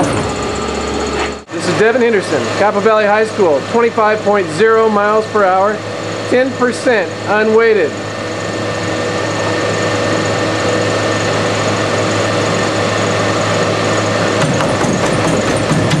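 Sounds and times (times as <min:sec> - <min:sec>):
treadmill motor whirring: 0:00.0 - 0:16.0.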